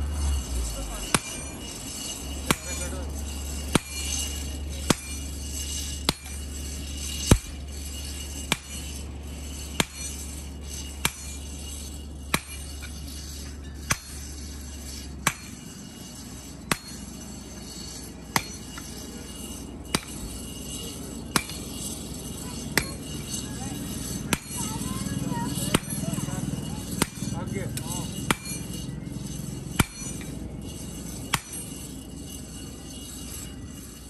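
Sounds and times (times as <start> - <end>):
sledgehammer striking metal on anvil: 0.0 - 34.0.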